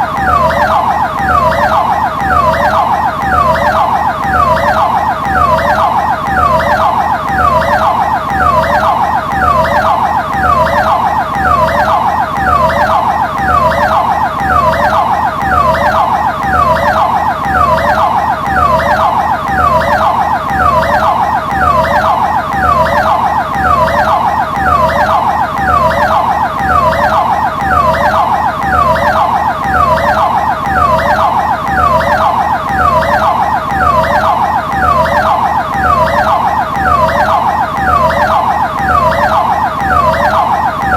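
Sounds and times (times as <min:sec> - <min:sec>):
ambulance siren wailing: 0:00.0 - 0:40.9.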